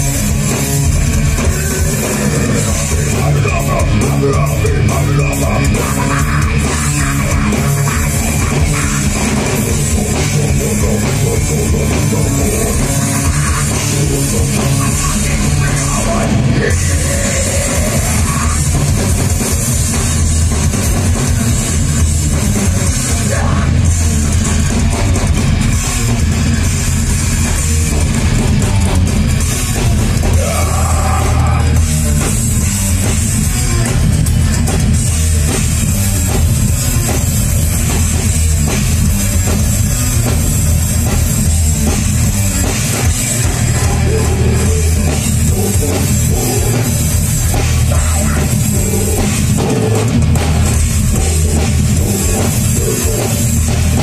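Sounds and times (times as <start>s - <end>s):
heavy metal band playing live: 0.0s - 54.0s.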